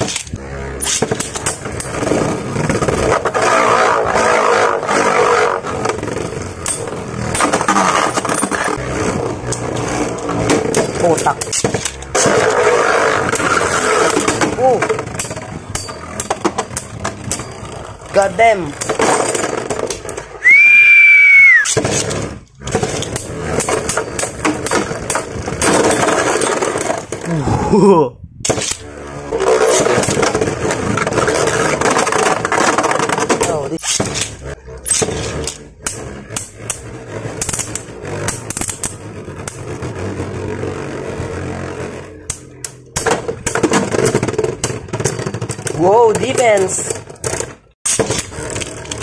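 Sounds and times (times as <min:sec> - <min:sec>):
spinning tops whirring scrape: 0:00.0 - 0:27.2, 0:28.5 - 0:49.0.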